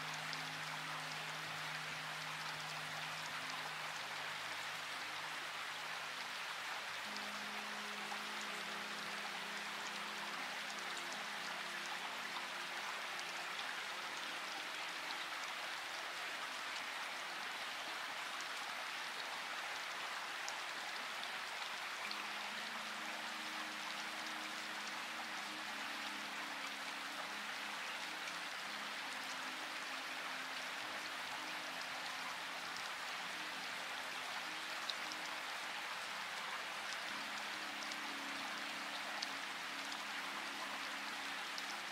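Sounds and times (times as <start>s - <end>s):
soft background music: 0.0s - 41.9s
steady rain hiss: 0.0s - 41.9s.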